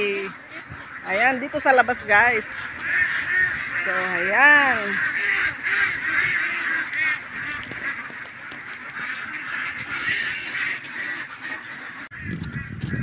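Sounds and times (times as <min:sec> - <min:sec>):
wind rumble on microphone: 0:00.0 - 0:08.3, 0:09.0 - 0:10.8, 0:12.1 - 0:13.0
waterfowl honking and quacking: 0:00.0 - 0:13.0.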